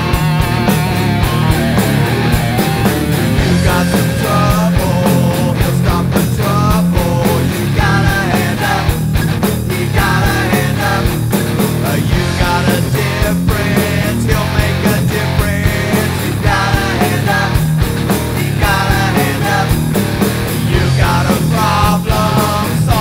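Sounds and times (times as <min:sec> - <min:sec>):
bending lead guitar line: 0:00.0 - 0:23.0
hard rock band playing: 0:00.0 - 0:23.0.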